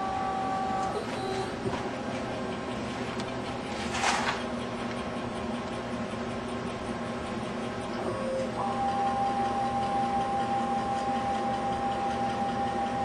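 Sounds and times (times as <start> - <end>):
electrical hum: 0.0 - 13.0
steady motor whine: 0.0 - 13.0.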